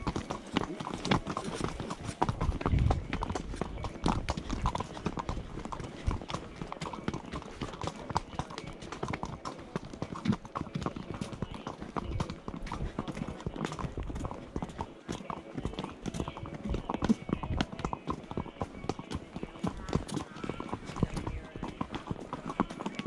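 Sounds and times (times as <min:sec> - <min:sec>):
hooves clip-clopping on stony trail: 0:00.0 - 0:23.0.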